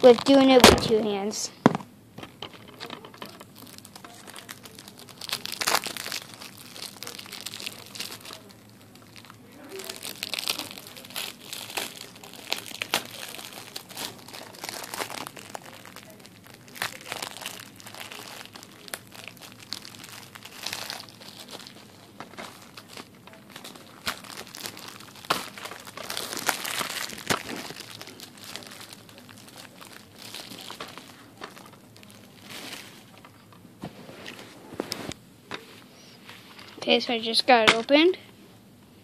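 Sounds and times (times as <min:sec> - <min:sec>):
plastic wrapping crinkling and tearing: 0:00.0 - 0:01.3, 0:02.2 - 0:35.2.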